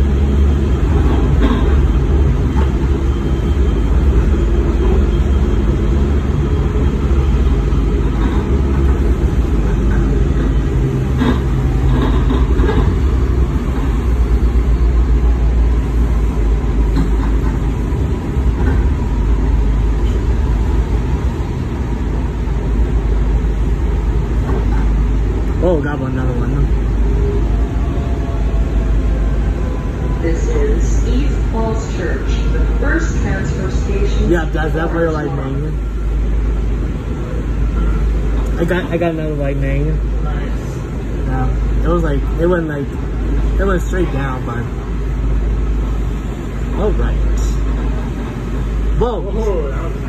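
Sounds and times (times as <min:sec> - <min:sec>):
train rumbling on rails: 0:00.0 - 0:50.0.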